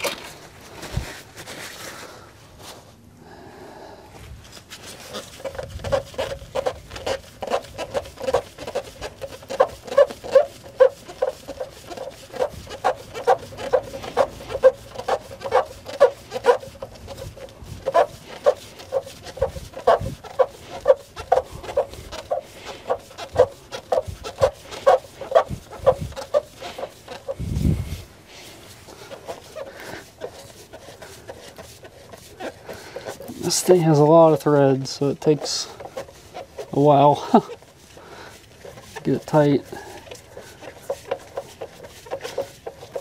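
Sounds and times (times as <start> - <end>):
fuel filter squeaking: 4.8 - 43.0.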